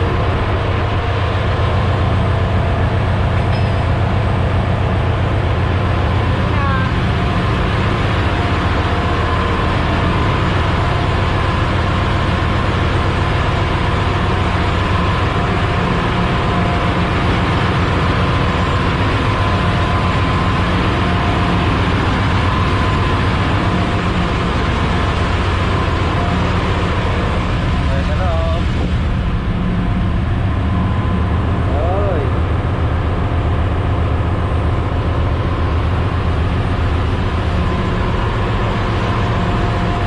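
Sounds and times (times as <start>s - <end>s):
engine-room machinery drone: 0.0s - 40.0s.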